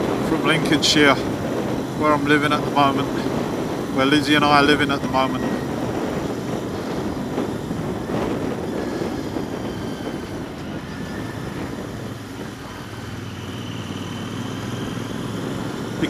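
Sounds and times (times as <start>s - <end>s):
motorcycle engine running: 0.0s - 16.0s
wind noise: 0.0s - 16.0s.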